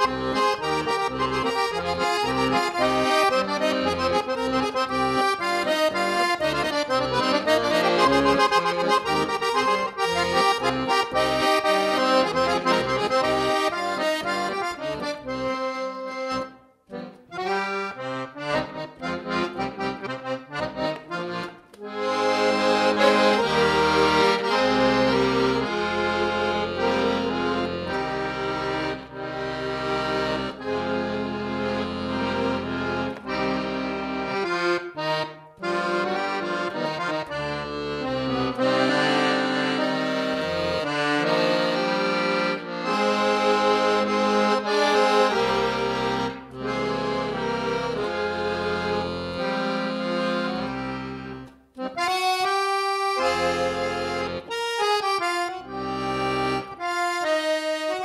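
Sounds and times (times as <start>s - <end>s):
piano accordion playing: 0.0s - 58.0s.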